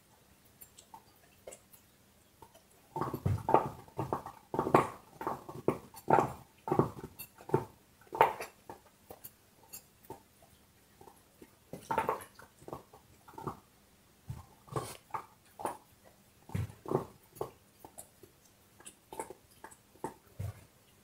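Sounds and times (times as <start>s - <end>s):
dog chewing on a bone: 0.6s - 13.7s, 14.3s - 20.7s.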